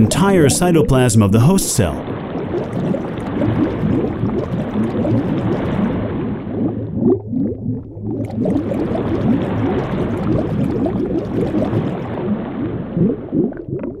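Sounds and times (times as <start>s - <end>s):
liquid bubbling and gurgling: 0.0s - 14.0s.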